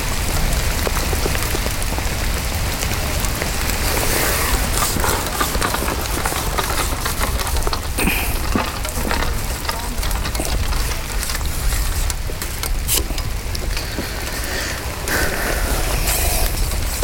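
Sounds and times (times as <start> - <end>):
rain on plastic bag: 0.0 - 17.0.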